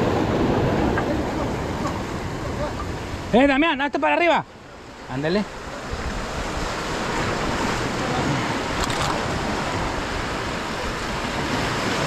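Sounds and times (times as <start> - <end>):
sea surf washing against rocks: 0.0 - 12.0.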